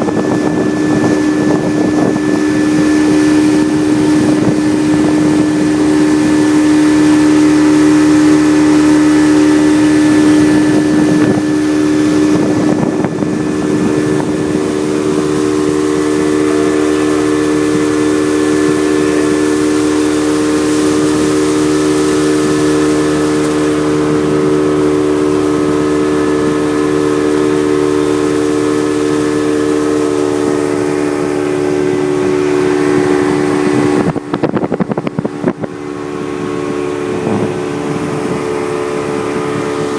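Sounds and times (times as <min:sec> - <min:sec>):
boat engine droning: 0:00.0 - 0:39.9
rushing wind and water: 0:00.0 - 0:39.9
wind gusts on microphone: 0:00.0 - 0:39.9.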